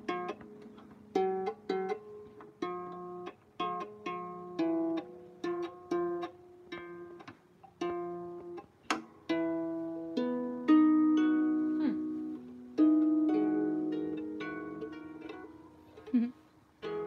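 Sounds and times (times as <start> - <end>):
out-of-tune harp plucked: 0.0 - 17.0.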